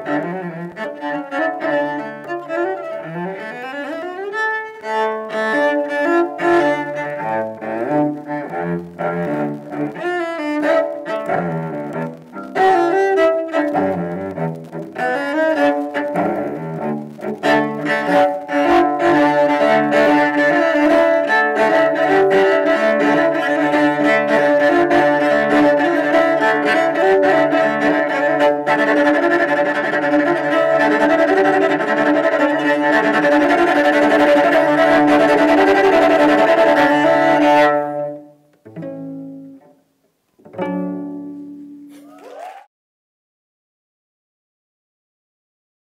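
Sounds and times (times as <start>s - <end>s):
solo cello bowed: 0.0s - 39.8s, 40.4s - 42.1s.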